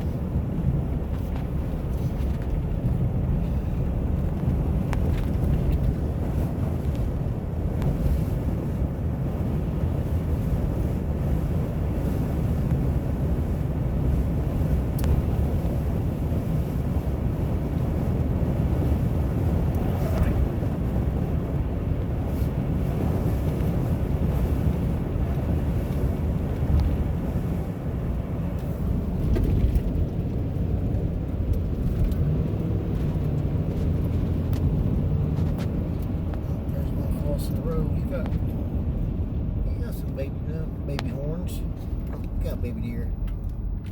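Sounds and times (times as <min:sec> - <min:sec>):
engine and tyre rumble: 0:00.0 - 0:43.9
wind noise: 0:00.0 - 0:43.9.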